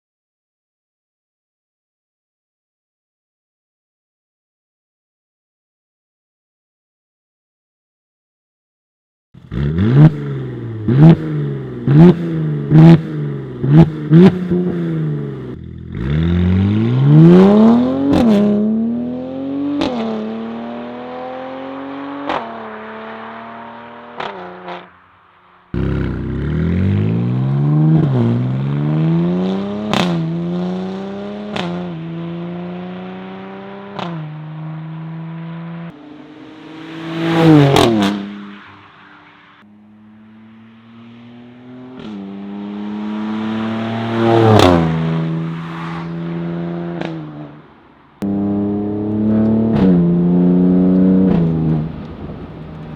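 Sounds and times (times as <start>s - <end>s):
car engine revving: 9.4s - 52.9s.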